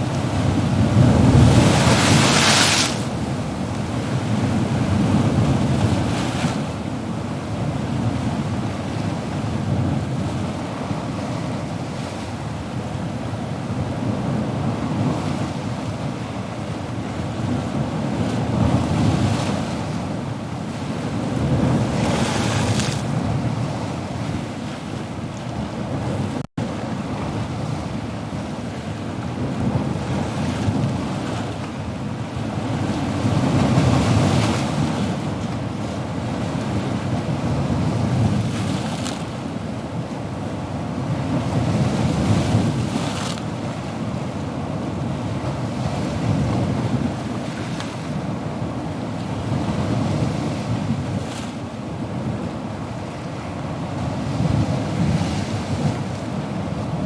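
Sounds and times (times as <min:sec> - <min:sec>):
ocean waves washing: 0:00.0 - 0:09.6, 0:16.4 - 0:57.0.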